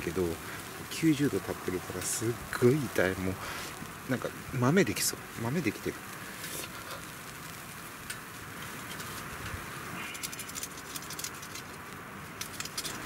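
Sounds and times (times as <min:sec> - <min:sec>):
steady faint hiss: 0:00.0 - 0:13.0.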